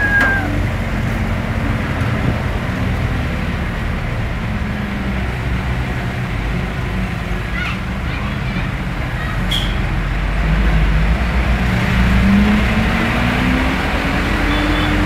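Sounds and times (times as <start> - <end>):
car engine drone: 0.0 - 15.0
diesel truck engine running: 0.0 - 15.0
road noise: 0.0 - 15.0.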